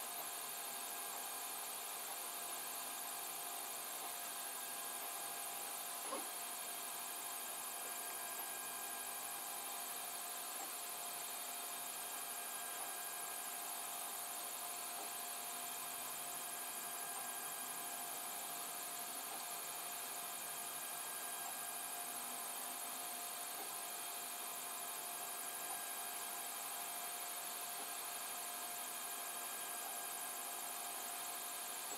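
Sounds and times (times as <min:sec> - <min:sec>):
printer fans and motors humming: 0:00.0 - 0:31.9.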